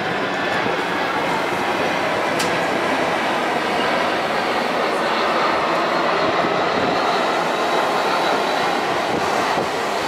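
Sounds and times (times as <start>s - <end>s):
jet airliner passing overhead: 0.0s - 10.0s.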